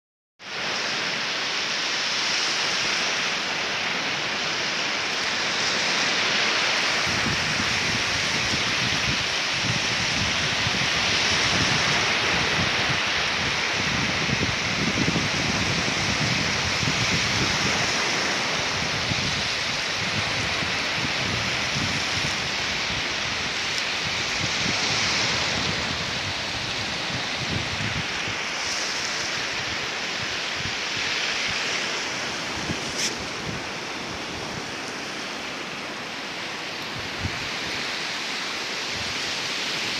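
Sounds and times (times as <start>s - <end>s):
surf washing on beach: 0.4s - 39.9s
wind buffeting microphone: 7.0s - 36.1s, 36.8s - 39.9s.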